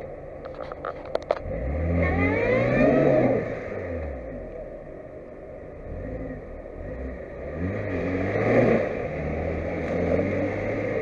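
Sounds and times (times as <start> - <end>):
car engine revving under load: 0.8 - 5.0, 5.6 - 11.0.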